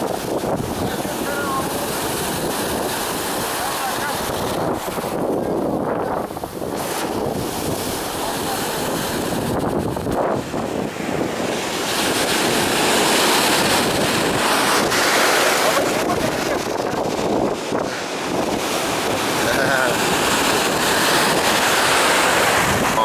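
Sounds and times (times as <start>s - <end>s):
waves breaking on shore: 0.0s - 23.0s
wind buffeting microphone: 0.0s - 23.0s.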